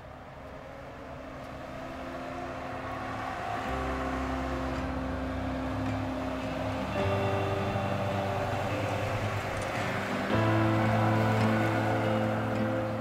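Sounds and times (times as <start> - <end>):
truck engine approaching: 0.0 - 13.0.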